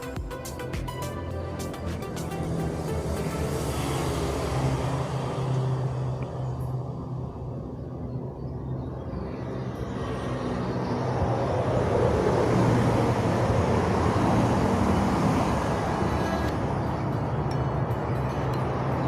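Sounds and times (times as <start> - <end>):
rushing noise: 0.0 - 8.3, 9.0 - 19.0
engine humming: 0.0 - 19.0.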